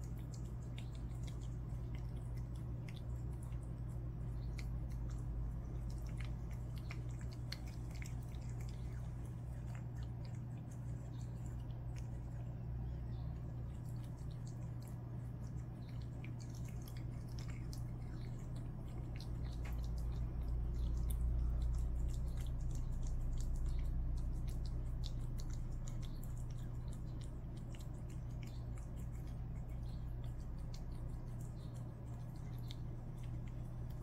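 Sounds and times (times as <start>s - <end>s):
cat chewing and lapping food: 0.0s - 34.0s
low hum: 0.0s - 34.0s.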